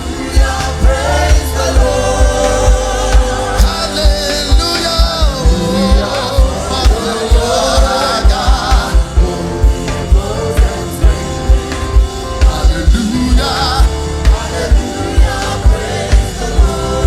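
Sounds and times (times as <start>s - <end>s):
gospel band playing: 0.0s - 17.0s
people singing: 0.0s - 17.0s.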